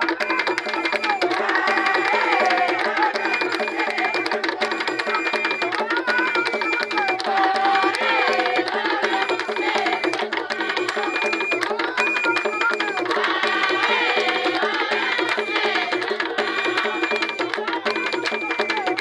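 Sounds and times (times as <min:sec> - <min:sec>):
group of voices singing: 0:00.0 - 0:19.0
hand clapping: 0:00.0 - 0:19.0
wooden drums fast rhythm: 0:00.0 - 0:19.0.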